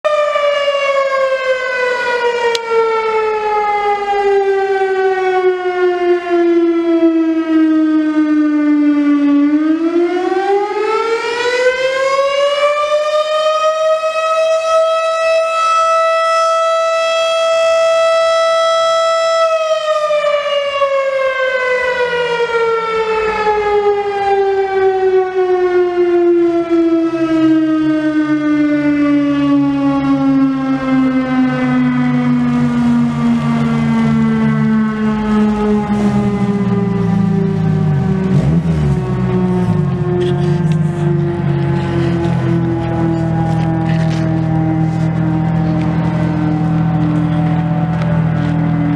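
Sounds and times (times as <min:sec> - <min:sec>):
tornado siren wailing: 0:00.0 - 0:48.9.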